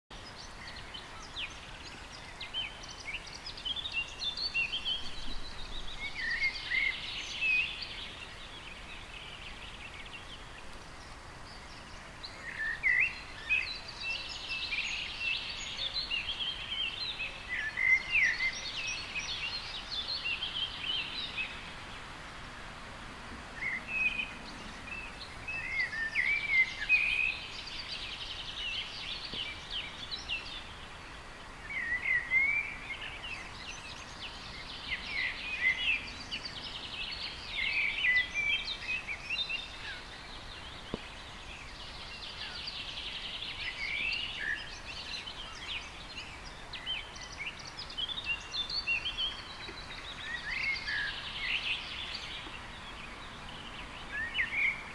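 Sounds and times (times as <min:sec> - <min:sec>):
birds chirping and warbling: 0:00.1 - 0:22.7, 0:23.5 - 0:54.9
steady background hiss: 0:00.1 - 0:54.9.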